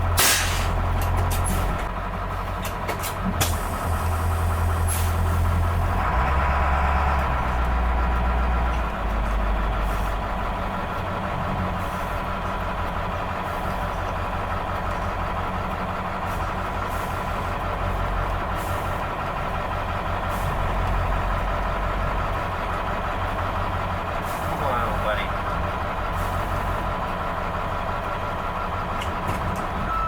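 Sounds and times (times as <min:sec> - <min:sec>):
diesel bus engine idling: 0:00.0 - 0:30.0.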